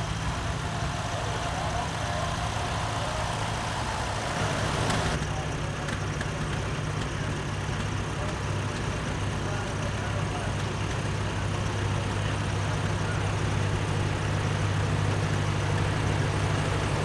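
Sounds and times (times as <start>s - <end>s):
tractor engines idling: 0.0s - 17.0s.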